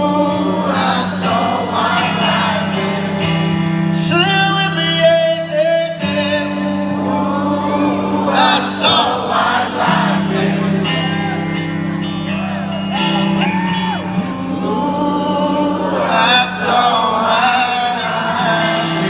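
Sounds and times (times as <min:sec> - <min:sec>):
amplified rock guitars: 0:00.0 - 0:19.0
person singing: 0:00.0 - 0:19.0.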